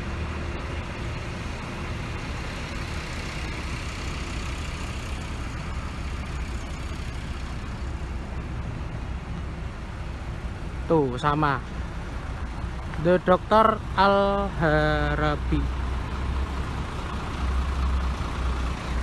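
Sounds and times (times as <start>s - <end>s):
diesel engines idling: 0.0s - 19.0s
road traffic noise: 0.0s - 19.0s.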